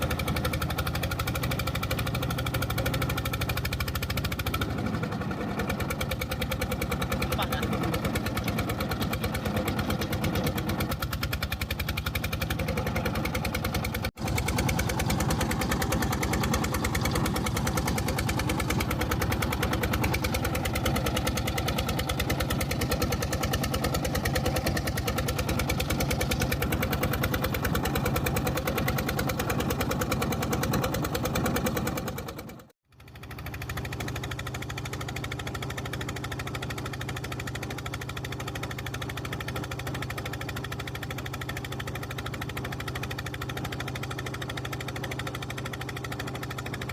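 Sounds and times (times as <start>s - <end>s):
boat diesel engine chugging: 0.0s - 46.9s.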